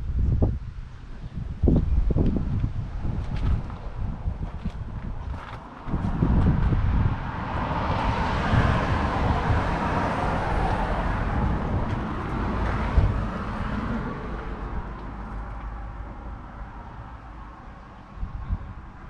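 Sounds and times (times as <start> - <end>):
wind rumble on microphone: 0.0 - 19.0
road vehicle passing: 2.4 - 19.0.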